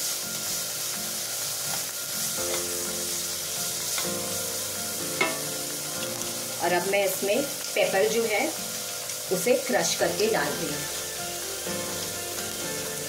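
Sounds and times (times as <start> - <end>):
corn sizzling in hot oil: 0.0 - 13.0
soft background music: 0.0 - 13.0.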